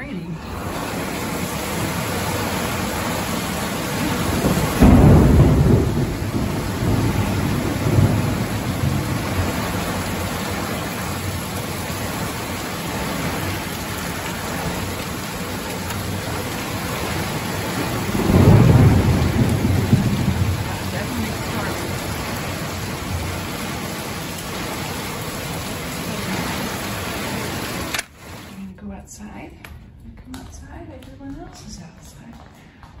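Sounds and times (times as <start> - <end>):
heavy rain pouring: 0.0 - 28.7
thunder rolling: 0.4 - 27.9.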